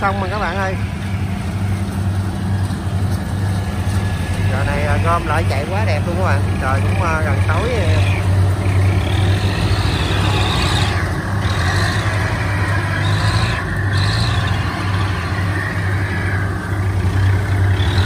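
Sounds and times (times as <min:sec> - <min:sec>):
combine harvester engines droning: 0:00.0 - 0:18.0.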